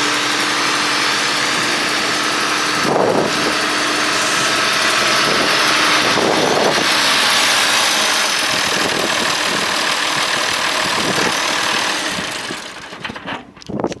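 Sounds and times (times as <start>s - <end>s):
diesel tractor engine idling: 0.0s - 13.8s.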